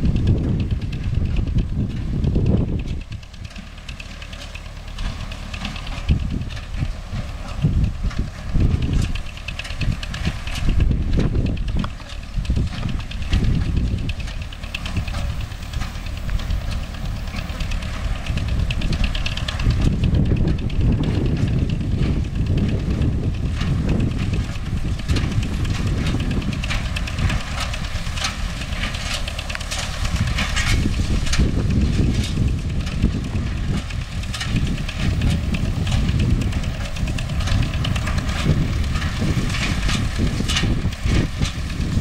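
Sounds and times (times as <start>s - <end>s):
hay baler clattering: 0.0s - 42.0s
tractor diesel engine running: 0.0s - 42.0s.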